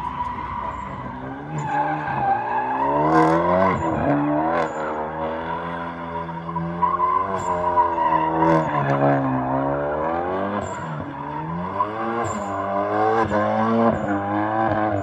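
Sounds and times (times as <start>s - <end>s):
tyres squealing: 0.0s - 14.2s
car engine revving hard: 0.0s - 15.0s.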